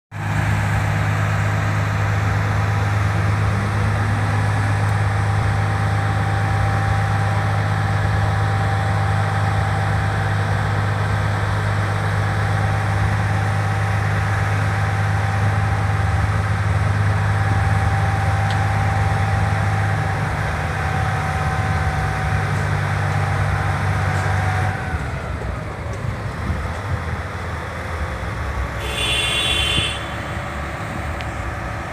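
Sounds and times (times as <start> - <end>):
diesel engine humming: 0.1 - 31.9.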